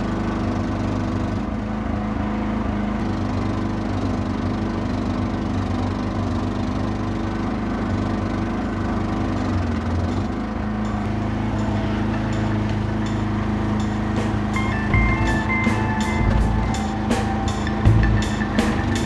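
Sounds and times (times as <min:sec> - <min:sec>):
excavator diesel engine running: 0:02.4 - 0:19.0.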